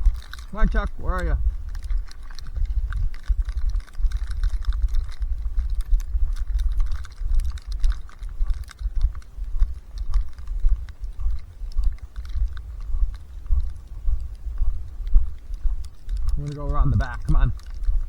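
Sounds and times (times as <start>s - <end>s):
footsteps crunching in snow: 0.0s - 18.0s
wind buffeting microphone: 0.0s - 18.0s.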